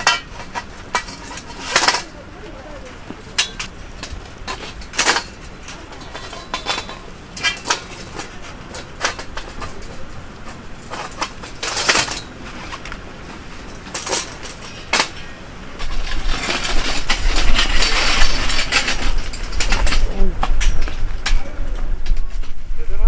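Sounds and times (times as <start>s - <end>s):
metal tubes clanking: 0.0s - 22.2s
steady rushing noise with rumble: 0.0s - 23.0s.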